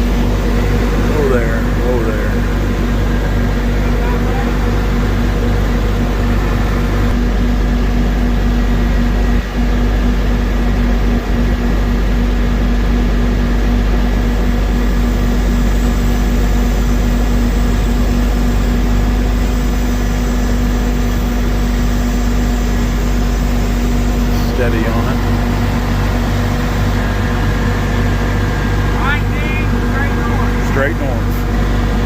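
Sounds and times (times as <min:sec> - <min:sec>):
diesel truck engine droning: 0:00.0 - 0:32.0
steady hum: 0:00.0 - 0:32.0.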